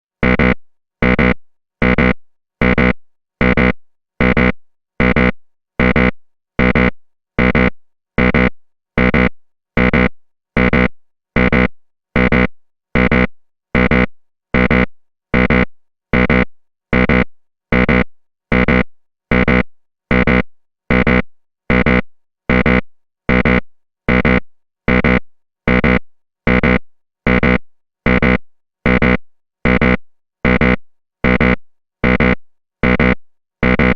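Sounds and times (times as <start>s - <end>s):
wrong answer buzzer: 0.2s - 33.9s.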